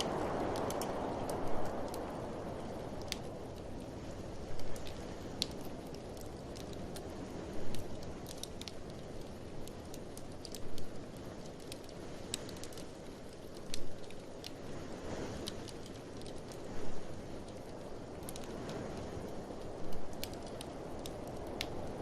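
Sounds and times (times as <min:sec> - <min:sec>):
blizzard wind rushing: 0:00.0 - 0:22.0
sharp pops from fire: 0:00.0 - 0:22.0
wood fire crackling: 0:00.0 - 0:22.0.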